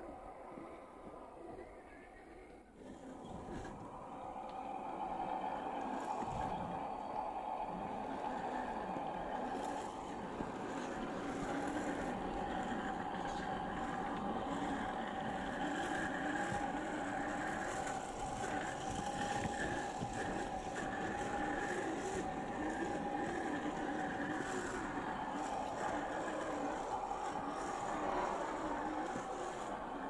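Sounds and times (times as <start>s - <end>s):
electric motor and gearbox whining: 2.8s - 30.0s.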